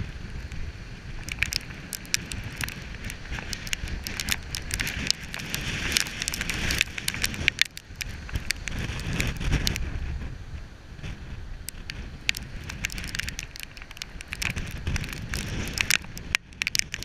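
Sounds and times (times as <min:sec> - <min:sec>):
surf breaking on rocky shore: 0:00.0 - 0:10.4, 0:11.0 - 0:17.0
wind buffeting microphone: 0:00.0 - 0:17.0
drops ticking on camera: 0:01.2 - 0:09.8, 0:11.7 - 0:17.0.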